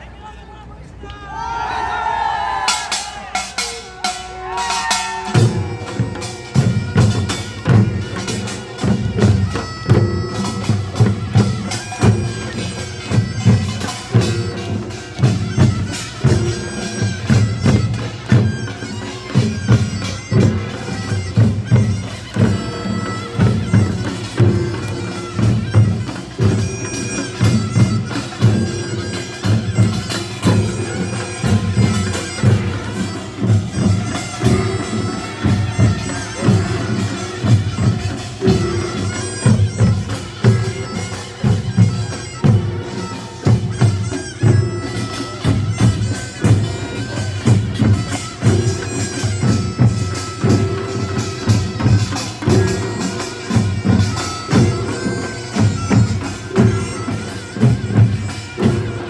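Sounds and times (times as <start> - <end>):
shawm playing nasal melody: 2.0 - 59.0
drums and small gongs beat: 2.2 - 59.0.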